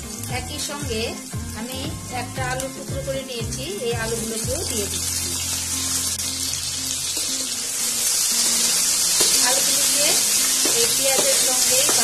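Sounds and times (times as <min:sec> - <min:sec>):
food sizzling in hot oil: 0:00.0 - 0:12.0
soft background music: 0:00.0 - 0:12.0.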